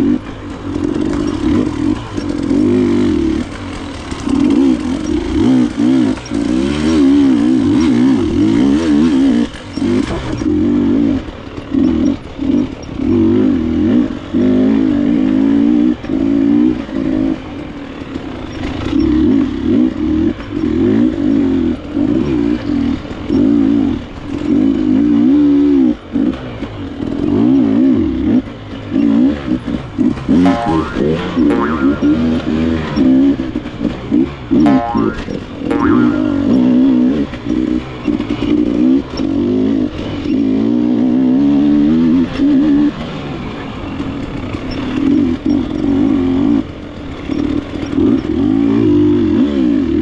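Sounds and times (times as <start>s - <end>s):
dirt bike engine revving: 0.0s - 43.3s, 44.2s - 50.0s.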